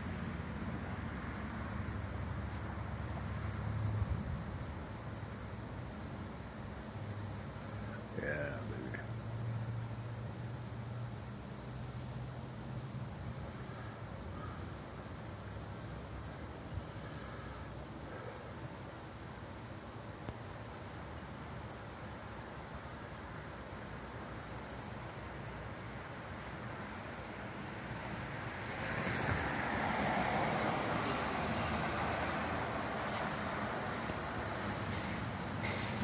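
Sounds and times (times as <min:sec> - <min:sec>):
night insects chorus: 0:00.0 - 0:36.0.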